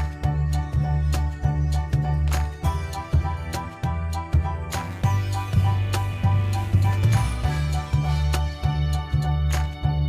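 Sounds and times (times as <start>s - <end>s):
background music with beat: 0.0s - 10.0s
bass line: 0.0s - 10.0s.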